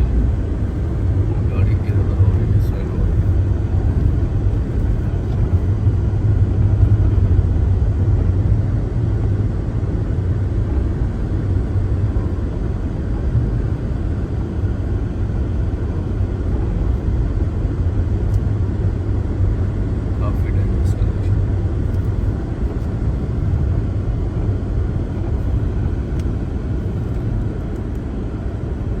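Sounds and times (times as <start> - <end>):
car driving on snowy road: 0.0 - 29.0.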